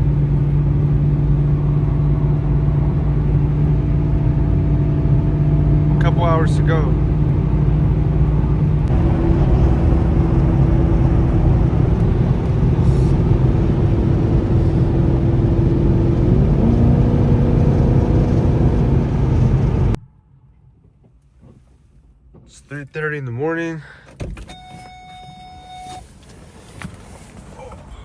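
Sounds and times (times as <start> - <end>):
car engine drone: 0.0 - 21.0, 26.2 - 28.0.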